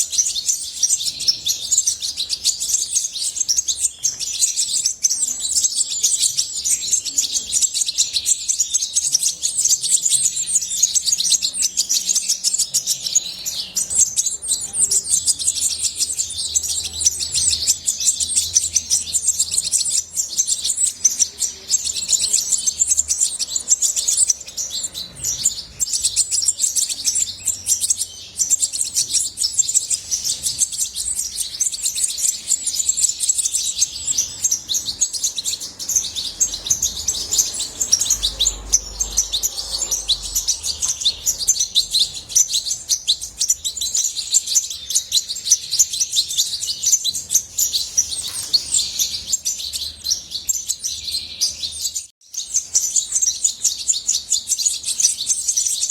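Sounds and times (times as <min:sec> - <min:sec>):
goldfinch twittering: 0:00.0 - 0:55.9.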